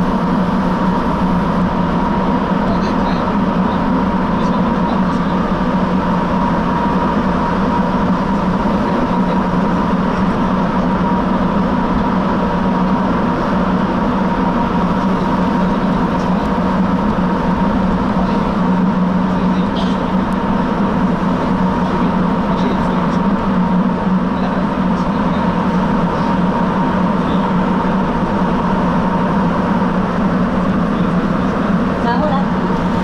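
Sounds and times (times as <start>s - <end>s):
low hum: 0.0s - 33.0s
subway train rolling noise: 0.0s - 33.0s.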